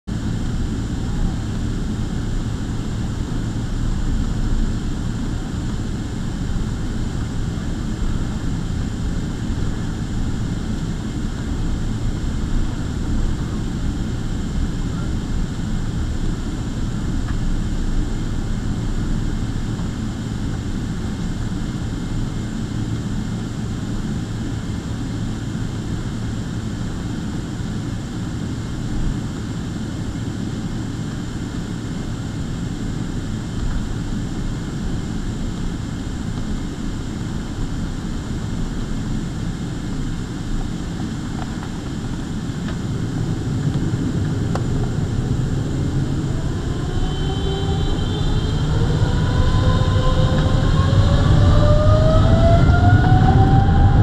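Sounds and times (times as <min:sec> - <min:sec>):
faint jet engine whine: 0:00.0 - 0:54.0
jet engines rumbling: 0:00.1 - 0:54.0.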